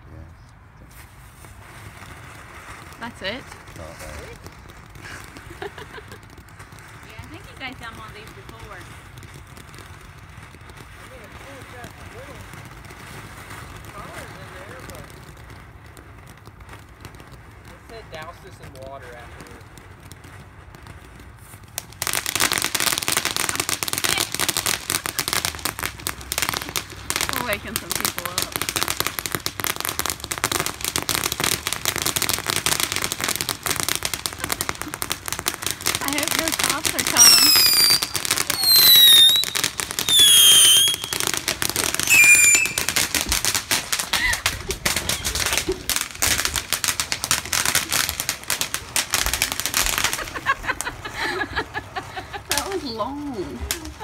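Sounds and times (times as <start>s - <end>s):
firework crackling: 0.0s - 54.0s.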